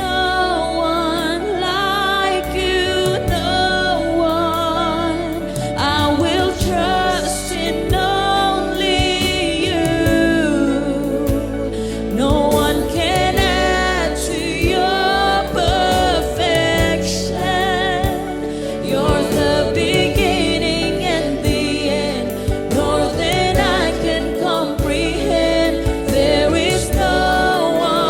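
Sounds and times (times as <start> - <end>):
keyboard or guitar chords: 0.0 - 28.0.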